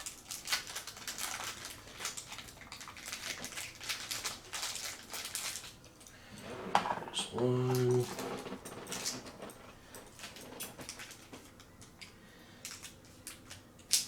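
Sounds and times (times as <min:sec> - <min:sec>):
plastic packaging crinkling: 0:00.0 - 0:06.1, 0:07.4 - 0:14.0.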